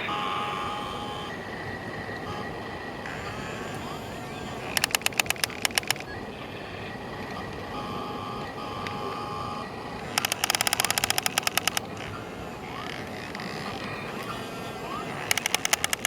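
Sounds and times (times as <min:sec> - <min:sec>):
excavator mechanical hum: 0:00.0 - 0:16.0
faint whine: 0:00.0 - 0:16.0.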